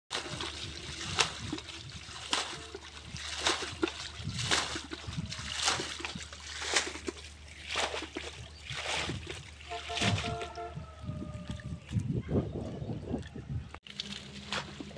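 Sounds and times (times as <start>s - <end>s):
muddy water splashing: 0.1s - 14.9s.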